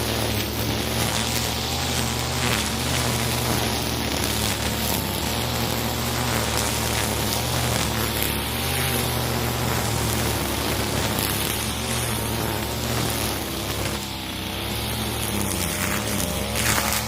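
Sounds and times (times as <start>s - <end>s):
brush cutter running: 0.0s - 17.0s.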